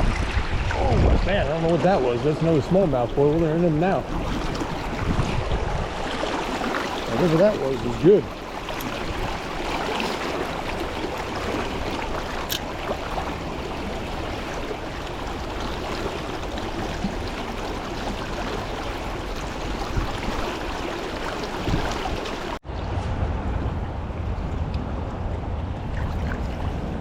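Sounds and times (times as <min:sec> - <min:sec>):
low rumble of wind on microphone: 0:00.0 - 0:27.0
stream water rushing: 0:00.0 - 0:27.0.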